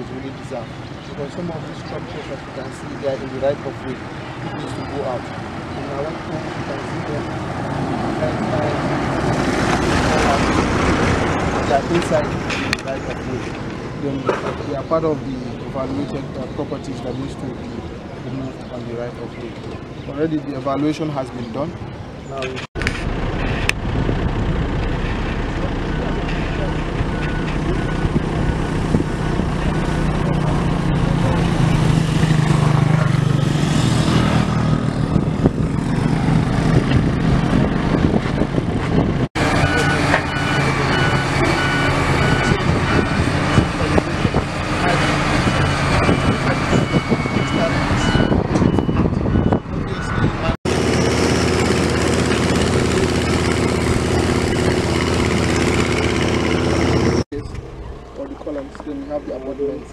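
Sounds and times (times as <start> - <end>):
vehicle engine droning: 0.0 - 20.8, 22.3 - 59.9.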